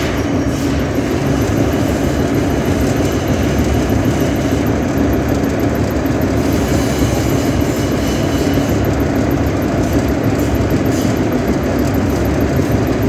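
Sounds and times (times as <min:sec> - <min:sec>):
machine rumbling: 0:00.0 - 0:13.0.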